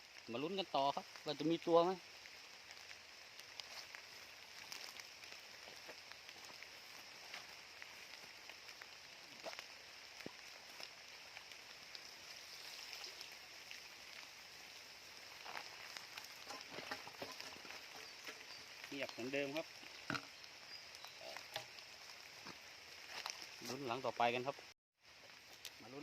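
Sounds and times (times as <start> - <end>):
light rain pattering: 0.0 - 26.0.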